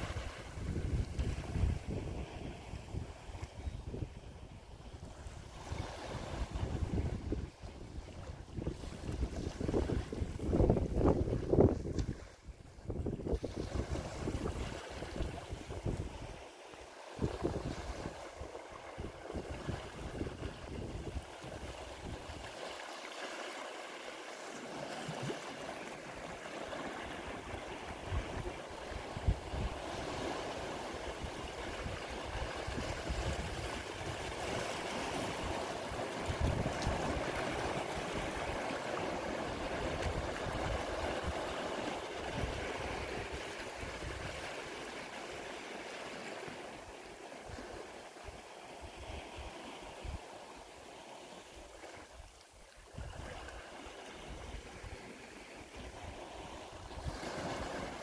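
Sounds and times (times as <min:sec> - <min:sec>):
waves washing over rocks: 0:05.2 - 0:58.0.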